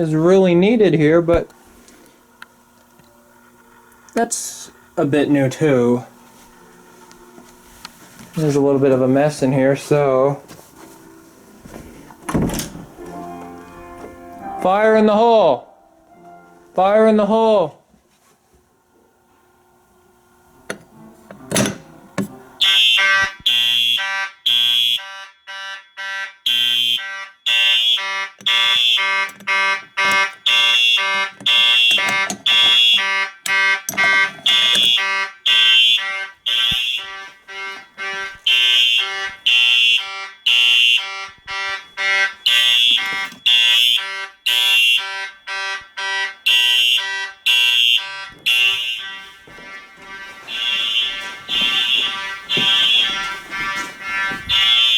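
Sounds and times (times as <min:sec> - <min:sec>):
fire alarm horns pulsing: 0:00.0 - 0:17.8, 0:22.4 - 0:54.9.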